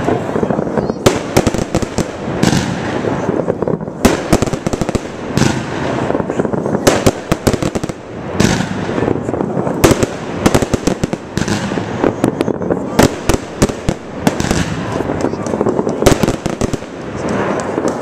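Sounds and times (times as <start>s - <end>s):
fireworks bursts and crackling: 0.0s - 18.0s
heavy firework bangs: 0.0s - 18.0s.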